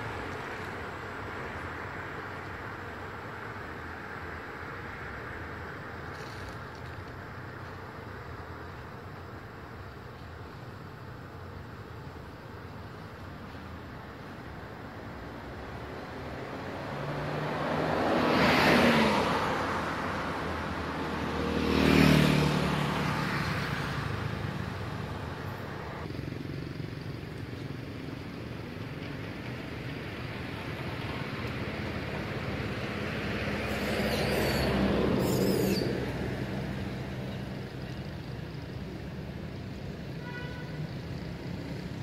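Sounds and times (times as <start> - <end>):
steady traffic hum: 0.0 - 42.0
vehicles passing on a road: 0.0 - 42.0.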